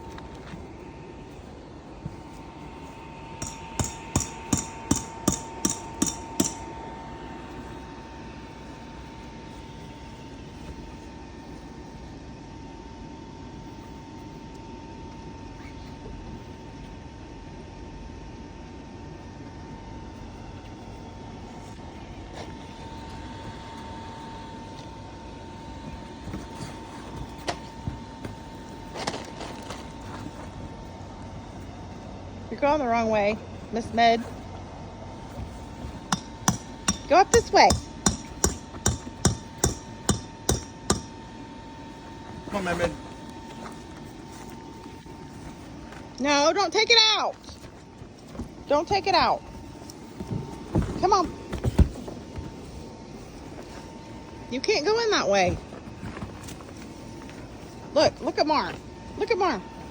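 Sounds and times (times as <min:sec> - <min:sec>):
air blower rumble and whine: 0:00.0 - 0:59.9
steady hum: 0:00.0 - 0:59.9.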